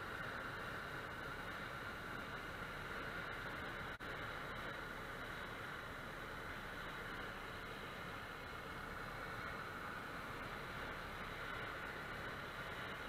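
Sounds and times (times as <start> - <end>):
light aircraft cabin drone: 0.0 - 13.0.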